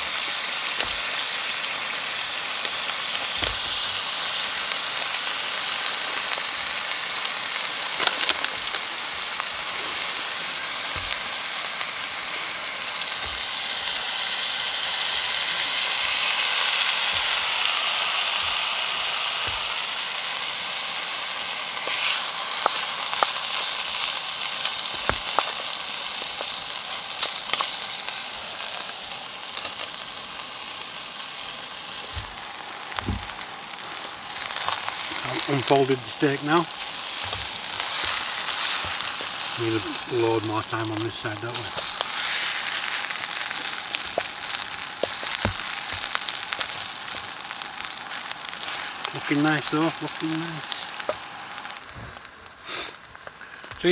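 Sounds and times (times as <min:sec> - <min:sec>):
food sizzling in a frying pan: 0:00.0 - 0:53.9.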